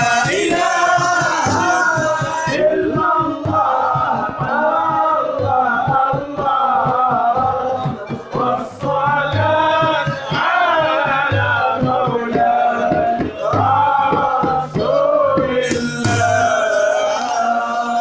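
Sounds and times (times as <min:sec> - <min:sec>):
frame drum beating: 0:00.0 - 0:17.0
men singing devotional song: 0:00.0 - 0:18.0.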